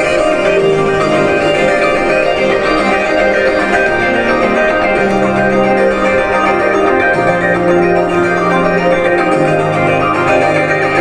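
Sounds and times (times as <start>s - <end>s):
organ-like chords: 0.0s - 11.0s.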